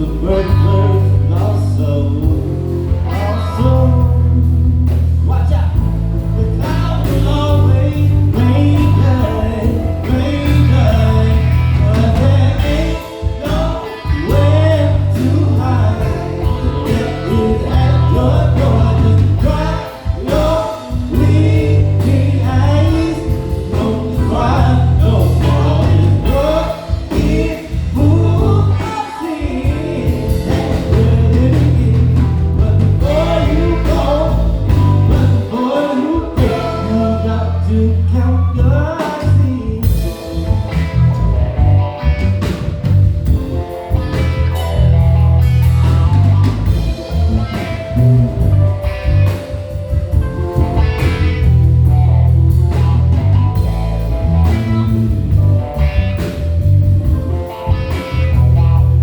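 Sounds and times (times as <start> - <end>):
live blues-rock band: 0.0 - 59.0.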